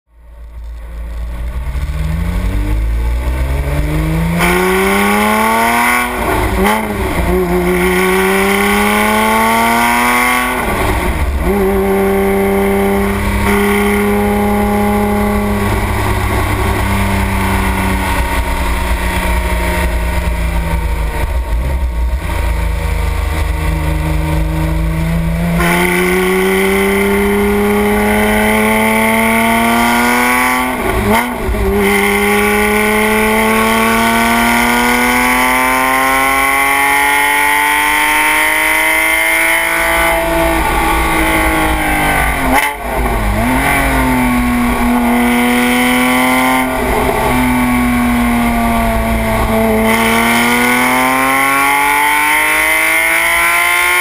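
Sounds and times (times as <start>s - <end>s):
sports car engine revving: 1.4s - 54.0s.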